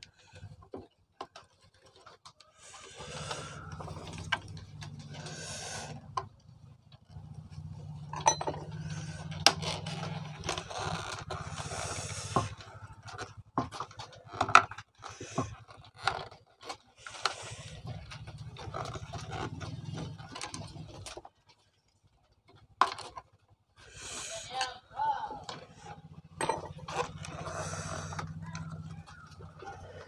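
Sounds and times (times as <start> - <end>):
plastic parts scraping: 0.0 - 24.6, 25.4 - 30.0.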